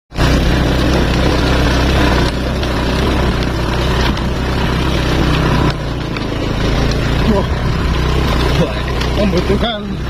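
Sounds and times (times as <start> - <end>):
road and wind noise: 0.1 - 10.0
vehicle engine running: 0.1 - 10.0.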